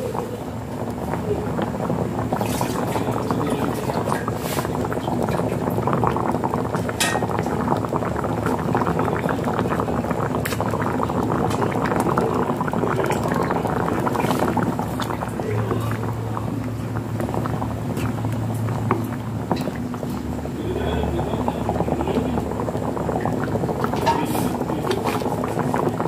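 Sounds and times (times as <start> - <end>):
stew bubbling and popping: 0.0 - 26.0.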